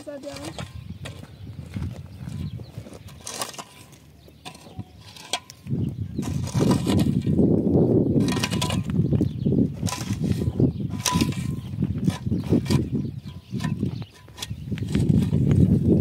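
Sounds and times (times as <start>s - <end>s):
shovel digging into stony dirt: 0.0s - 1.2s, 2.3s - 7.6s, 8.2s - 16.0s.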